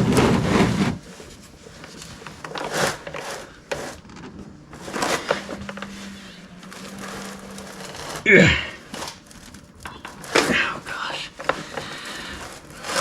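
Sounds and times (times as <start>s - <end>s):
faint steady hum: 0.0s - 13.0s
tool scraping on oil filter: 0.0s - 13.0s.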